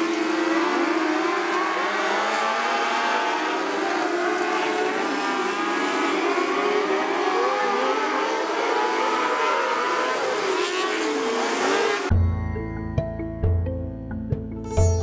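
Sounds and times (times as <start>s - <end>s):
racing car engines at high revs: 0.0s - 12.1s.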